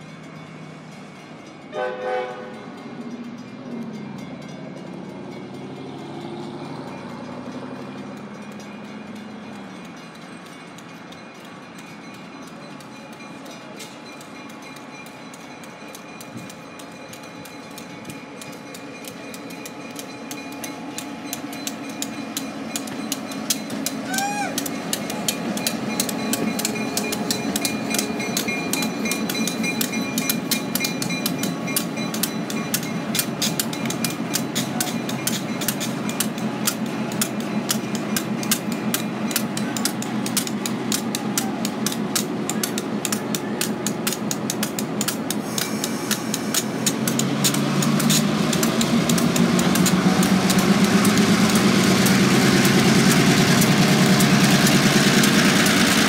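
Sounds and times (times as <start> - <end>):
diesel locomotives running: 0.0 - 56.0
freight car wheels clanking over joints: 3.1 - 56.0.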